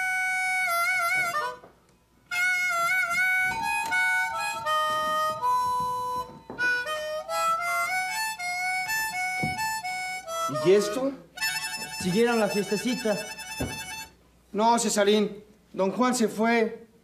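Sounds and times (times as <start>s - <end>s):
harmonica slow melody: 0.0s - 14.4s.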